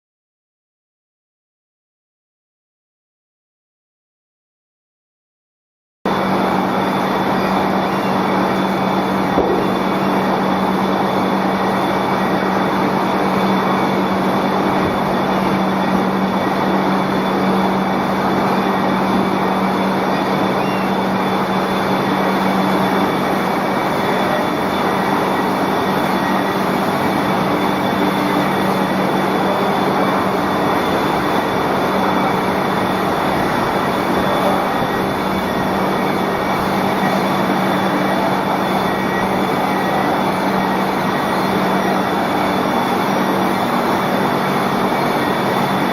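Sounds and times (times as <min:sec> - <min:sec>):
machinery high whines: 0:06.1 - 0:45.9
machinery low hum: 0:06.1 - 0:45.9.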